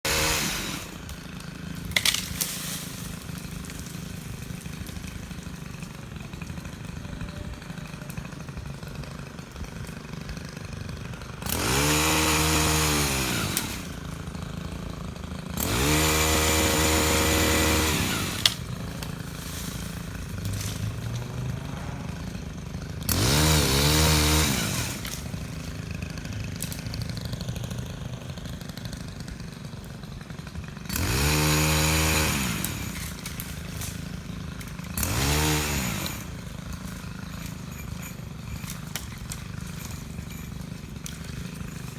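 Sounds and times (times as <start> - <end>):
chainsaw idling and revving: 0.0 - 41.9.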